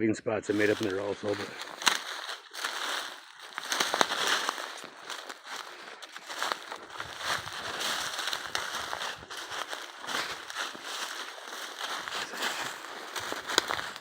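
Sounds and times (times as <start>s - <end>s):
branches scraping: 0.5s - 14.0s
twigs and brush crackling: 0.5s - 14.0s.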